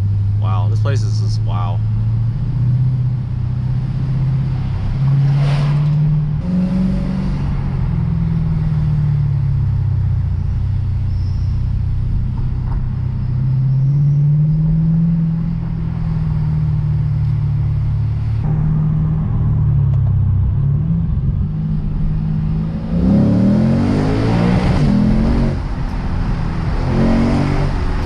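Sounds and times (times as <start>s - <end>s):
car engine revving while driving: 1.8s - 28.0s.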